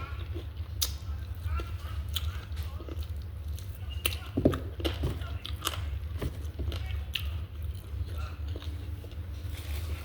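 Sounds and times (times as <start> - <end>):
crunching and chewing: 0.0 - 10.0
steady low hum: 0.0 - 10.0.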